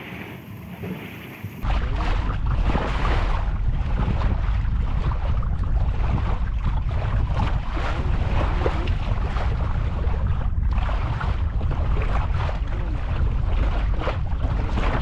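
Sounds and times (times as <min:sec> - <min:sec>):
water lapping around boat: 0:00.0 - 0:15.0
wind buffeting microphone: 0:00.0 - 0:15.0.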